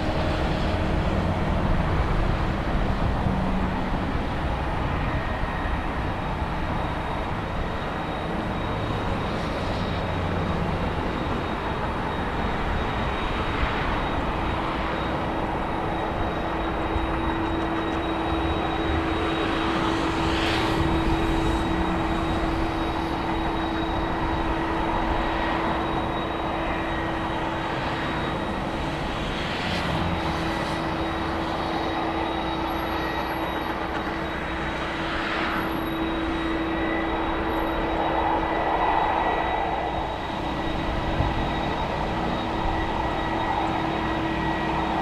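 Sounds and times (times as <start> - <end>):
airliner engines rumbling: 0.0 - 45.0
constant engine hum: 0.0 - 45.0.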